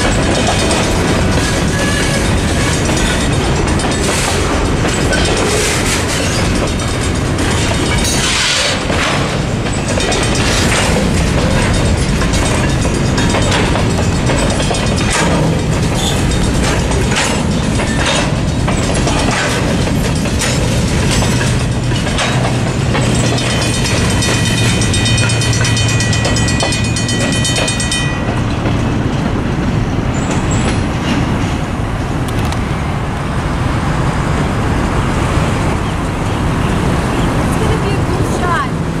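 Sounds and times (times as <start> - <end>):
train wheels clacking over rail joints: 0.0 - 32.7
road traffic noise: 0.0 - 39.0.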